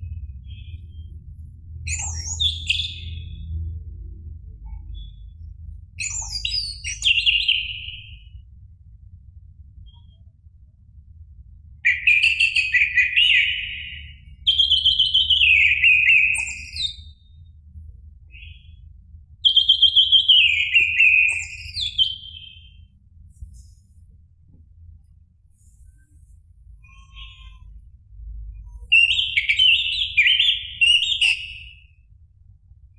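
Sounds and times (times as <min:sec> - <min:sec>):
faint low rumble: 0:00.0 - 0:11.9, 0:13.7 - 0:19.8, 0:21.4 - 0:30.2, 0:31.6 - 0:32.9.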